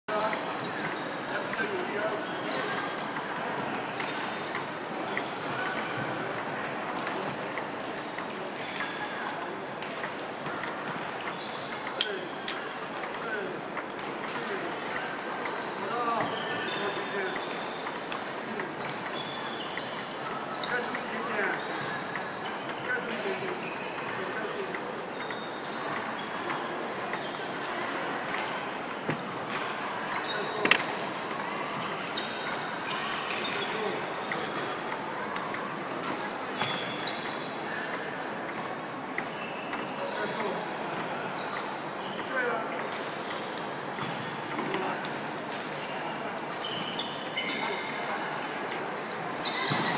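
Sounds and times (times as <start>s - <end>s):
background noise: 0.1s - 49.9s
steady background noise: 0.1s - 49.9s
table tennis ball clicking: 4.0s - 45.7s.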